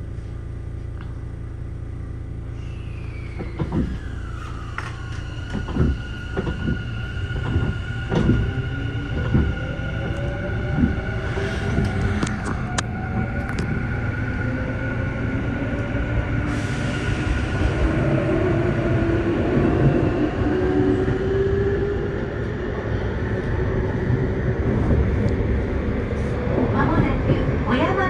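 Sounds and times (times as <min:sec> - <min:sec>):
wheels rumbling on rails: 0:00.1 - 0:28.0.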